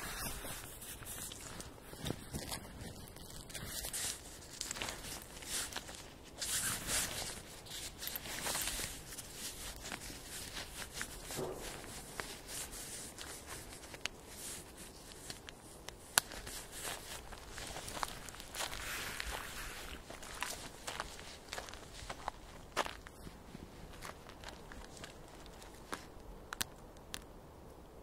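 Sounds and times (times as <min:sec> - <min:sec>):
footsteps on leafy dirt trail: 0:00.0 - 0:26.2.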